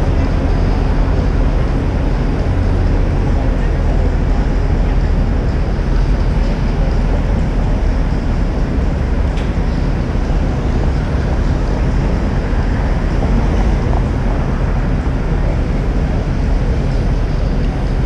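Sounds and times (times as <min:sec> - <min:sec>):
street traffic: 0:00.0 - 0:18.0
wind rushing over microphone: 0:00.0 - 0:18.0.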